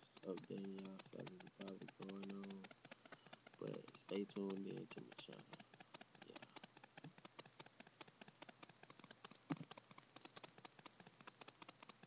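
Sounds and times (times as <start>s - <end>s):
computer keys typing: 0.0s - 12.0s.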